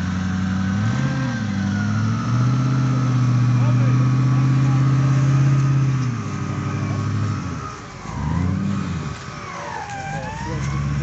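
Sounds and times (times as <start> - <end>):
off-road buggy engine revving: 0.0 - 11.0.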